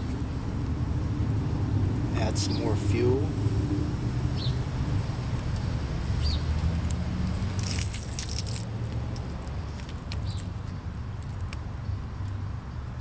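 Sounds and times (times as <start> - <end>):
city background rumble: 0.0 - 13.0.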